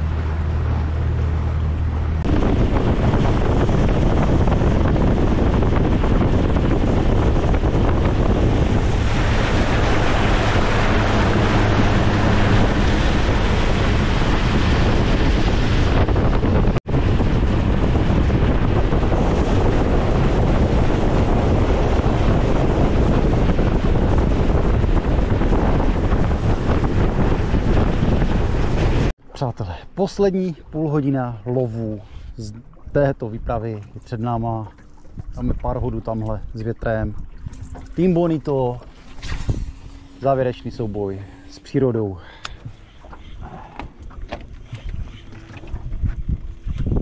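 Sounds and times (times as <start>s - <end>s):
strong wind buffeting microphone: 0.0s - 47.0s
waves on a lake: 0.0s - 47.0s.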